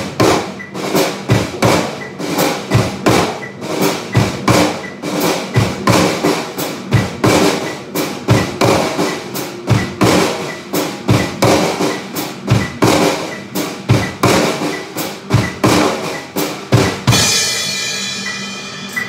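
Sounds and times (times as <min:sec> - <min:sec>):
drum kit playing: 0:00.0 - 0:19.0.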